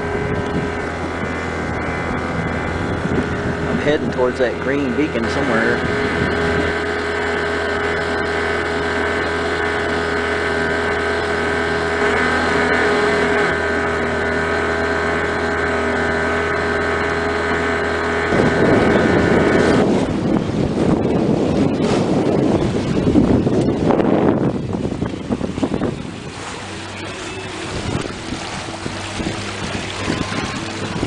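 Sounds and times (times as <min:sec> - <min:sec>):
outboard motor running: 0:00.0 - 0:31.0
wind buffeting microphone: 0:00.0 - 0:31.0.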